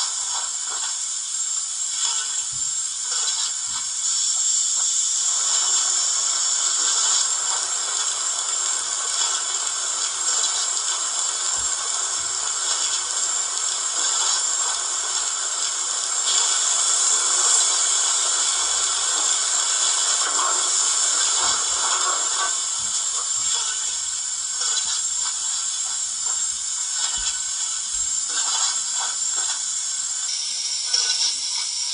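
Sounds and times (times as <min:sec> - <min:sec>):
model locomotive steam hiss: 0:00.0 - 0:31.9.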